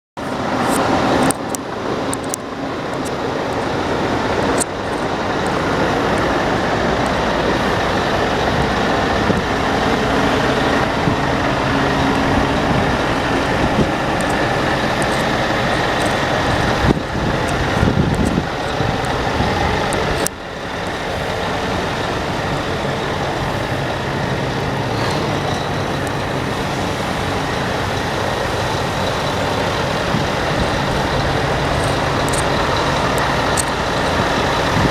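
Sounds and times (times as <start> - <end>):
diesel engine running steadily: 0.2 - 34.9.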